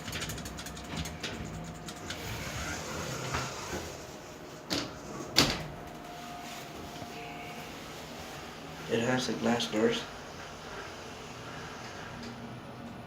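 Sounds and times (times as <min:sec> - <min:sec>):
elevator sliding doors running: 0:00.0 - 0:13.0.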